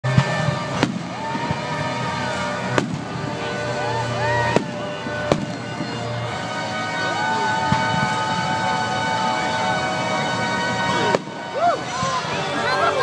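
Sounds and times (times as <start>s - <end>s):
music: 0.0s - 13.0s
voices: 0.1s - 13.0s.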